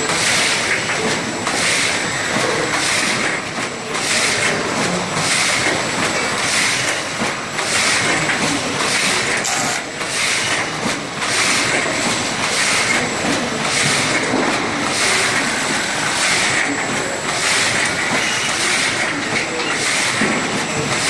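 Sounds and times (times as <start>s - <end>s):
die cutting machine clatter: 0.0s - 21.0s.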